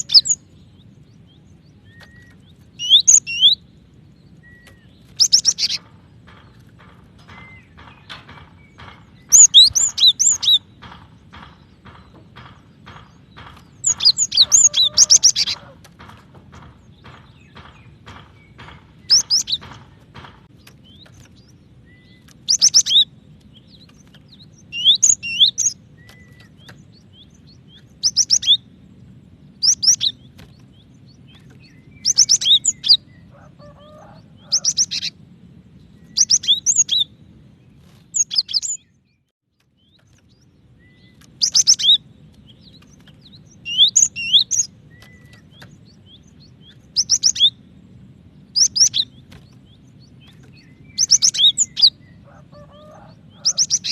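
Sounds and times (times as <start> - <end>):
bird rapid high chirping: 0.0 - 28.8, 29.4 - 35.2, 35.9 - 37.2, 37.8 - 39.0, 39.6 - 53.9
steady low hum: 0.0 - 53.9.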